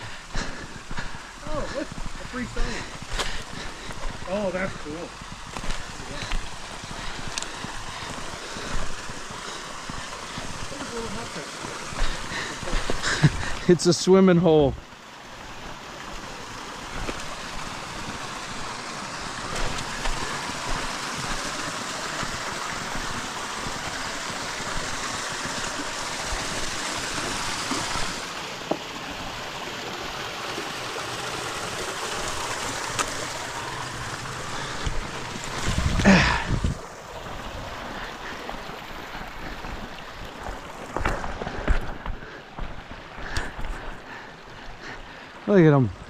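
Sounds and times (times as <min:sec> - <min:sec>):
creek water flowing: 0:00.0 - 0:46.0.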